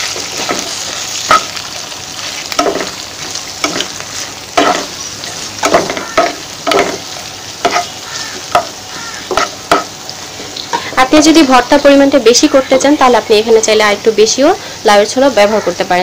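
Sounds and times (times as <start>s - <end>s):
peel sizzling in hot oil: 0.0s - 16.0s.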